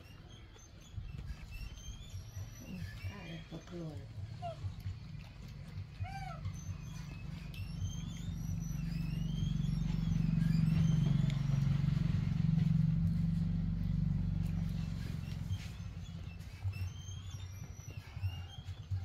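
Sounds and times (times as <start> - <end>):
motor engine humming: 0.0 - 19.0.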